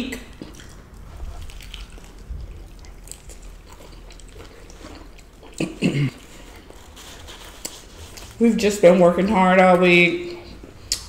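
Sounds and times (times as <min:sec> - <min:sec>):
chewing crispy chicken: 0:00.2 - 0:11.0.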